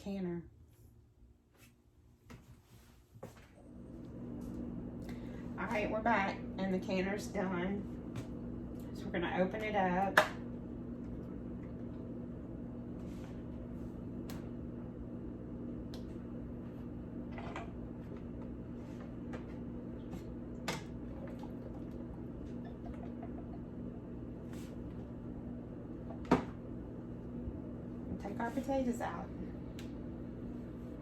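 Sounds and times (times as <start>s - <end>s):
steady low hum: 2.9s - 31.0s.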